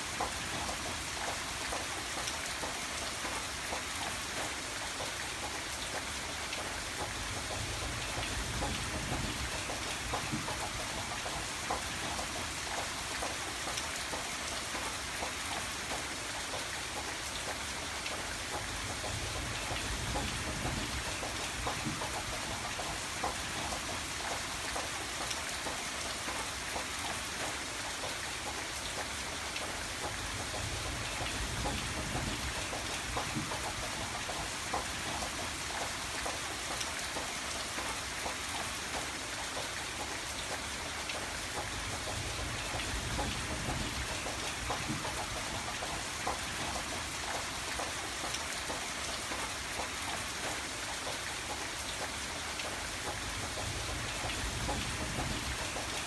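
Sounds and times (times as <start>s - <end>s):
raindrops ticking on a surface: 0.0s - 56.0s
steady rain falling: 0.0s - 56.0s.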